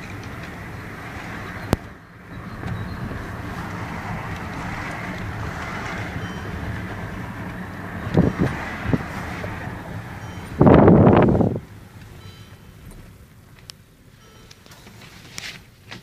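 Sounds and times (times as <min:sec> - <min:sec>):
car rumbling on the move: 0:00.0 - 0:16.0.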